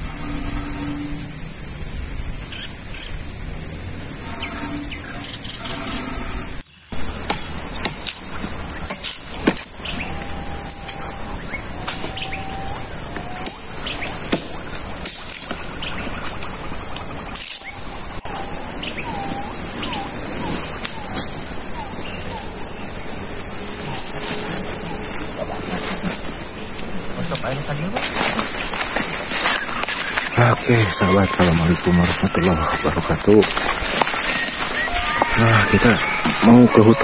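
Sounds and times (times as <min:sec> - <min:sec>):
forest insects droning: 0:00.0 - 0:37.0
whistled bird calls: 0:02.3 - 0:27.2, 0:27.8 - 0:37.0.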